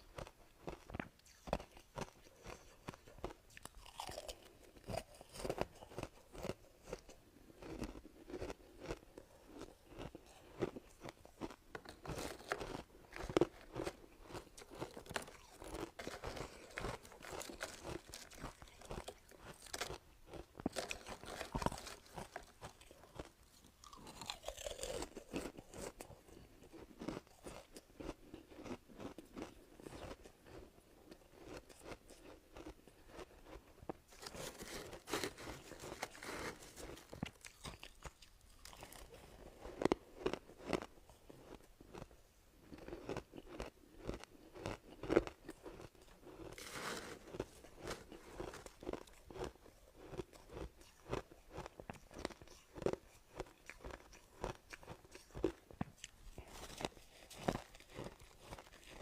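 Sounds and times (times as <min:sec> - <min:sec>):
chewing crunching ice: 0:00.0 - 0:59.0.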